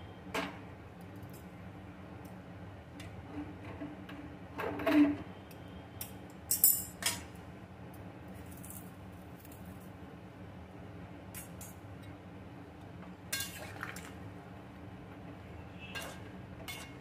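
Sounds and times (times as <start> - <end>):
steady low background hum: 0.0 - 17.0.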